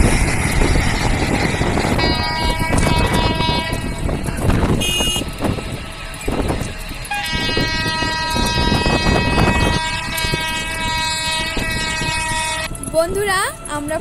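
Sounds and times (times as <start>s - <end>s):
train rumble: 0.0s - 14.0s
train horn: 0.6s - 14.0s.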